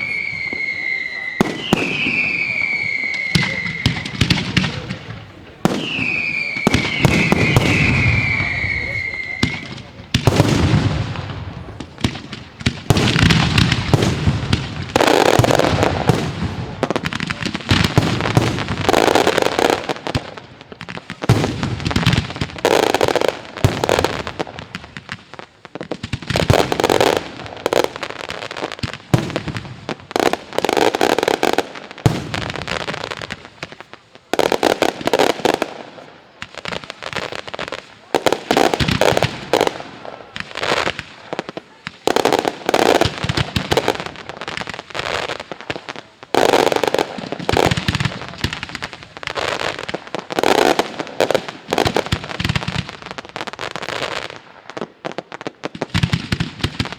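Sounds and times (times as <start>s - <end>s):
fireworks bursting and crackling: 0.0s - 56.9s.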